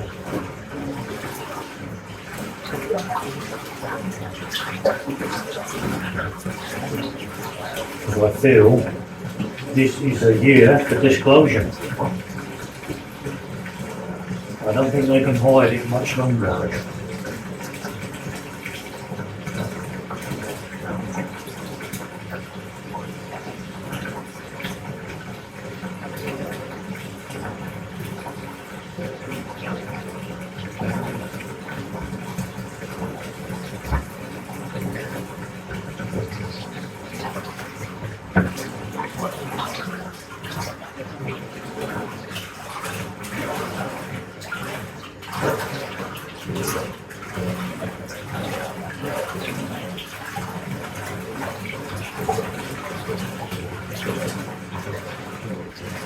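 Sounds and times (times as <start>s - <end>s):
water pouring into a bathtub: 0.0s - 56.0s.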